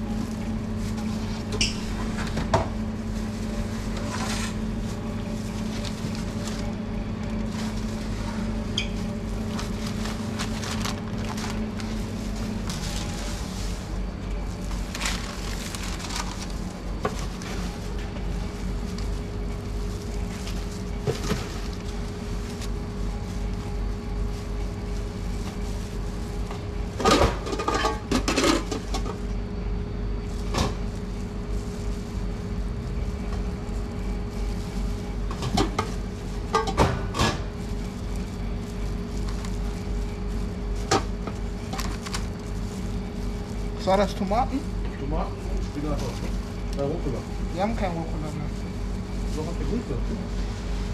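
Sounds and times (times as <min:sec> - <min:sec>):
gloved hands rustling food: 0:00.0 - 0:02.2, 0:02.8 - 0:27.0, 0:30.2 - 0:36.8, 0:37.4 - 0:50.9
steady background hum: 0:00.0 - 0:50.9.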